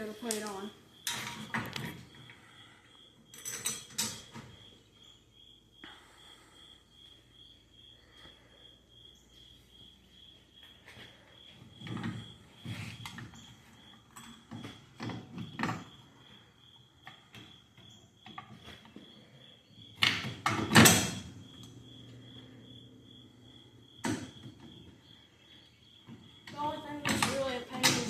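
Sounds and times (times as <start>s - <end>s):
cricket trill: 0.0s - 28.0s.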